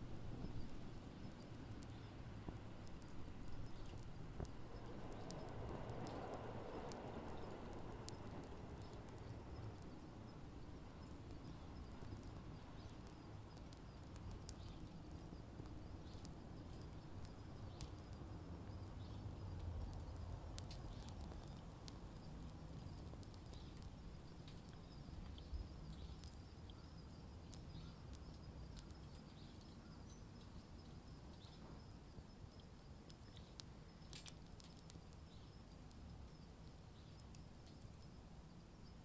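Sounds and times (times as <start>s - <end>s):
low steady rumble: 0.0s - 37.5s
wood fire crackling: 0.0s - 39.0s.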